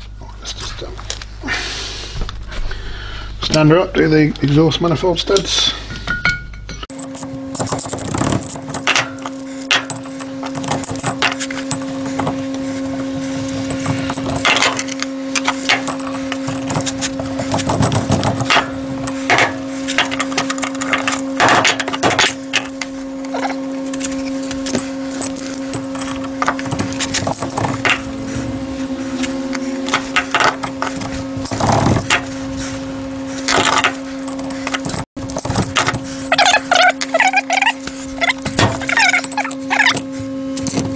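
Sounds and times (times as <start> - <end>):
steady hum: 0.0 - 40.9
stud extractor scraping: 6.9 - 40.9.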